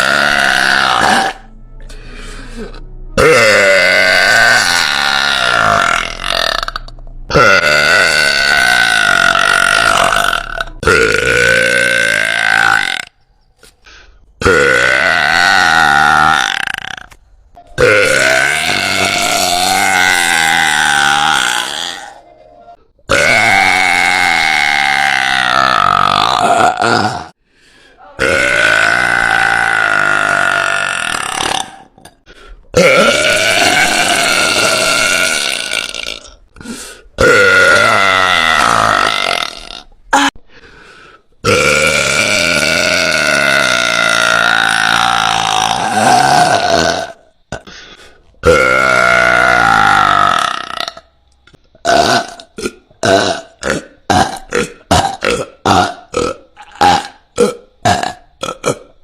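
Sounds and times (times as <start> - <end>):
woman burping loudly: 0.0 - 1.5, 2.6 - 13.1, 14.4 - 17.1, 17.8 - 22.2, 23.0 - 27.4, 28.2 - 36.6, 37.2 - 40.4, 41.4 - 47.7, 48.4 - 51.1, 51.8 - 59.0.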